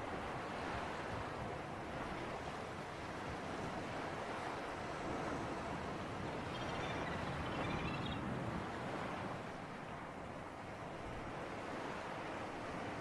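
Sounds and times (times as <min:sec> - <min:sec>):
sea surf: 0:00.0 - 0:13.0.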